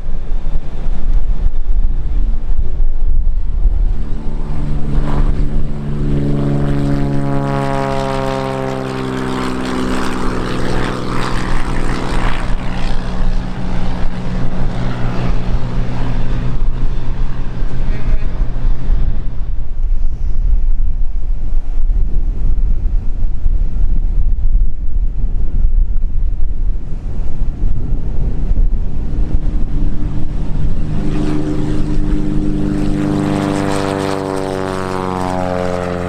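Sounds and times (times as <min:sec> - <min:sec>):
airplane engine and propeller: 0:00.0 - 0:36.0
wind buffeting microphone: 0:00.0 - 0:36.0.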